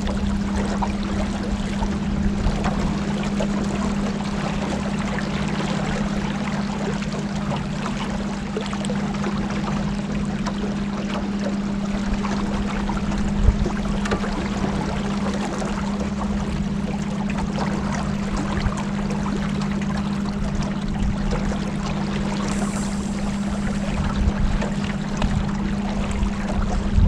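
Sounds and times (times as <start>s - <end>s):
boat motor humming: 0.0s - 27.0s
water rushing along hull: 0.0s - 27.0s.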